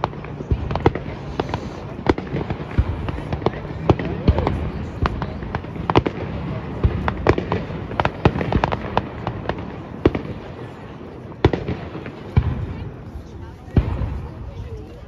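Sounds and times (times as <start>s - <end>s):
fireworks bursting in sharp bangs: 0.0s - 14.7s.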